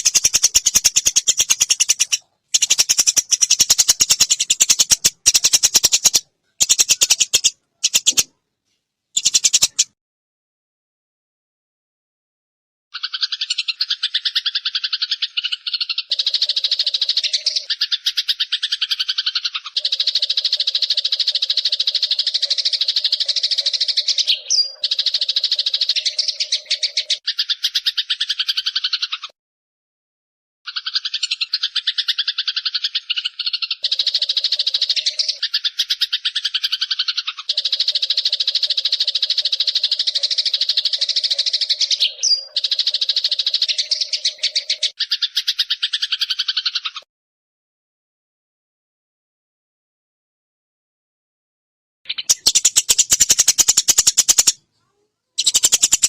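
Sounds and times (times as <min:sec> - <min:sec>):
bird trilling: 0:00.0 - 0:08.3, 0:09.2 - 0:09.9, 0:13.0 - 0:29.3, 0:30.7 - 0:47.0, 0:52.1 - 0:54.6, 0:55.4 - 0:56.0.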